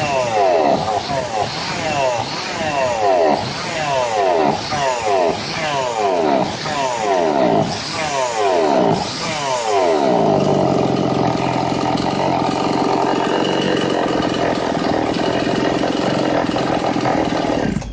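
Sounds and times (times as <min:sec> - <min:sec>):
chainsaw engine revving and idling: 0:00.0 - 0:17.9.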